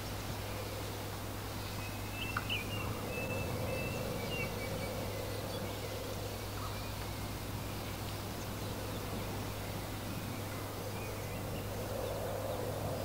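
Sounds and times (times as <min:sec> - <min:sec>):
songbirds chirping: 0:00.0 - 0:13.0
wind hiss: 0:00.0 - 0:13.0.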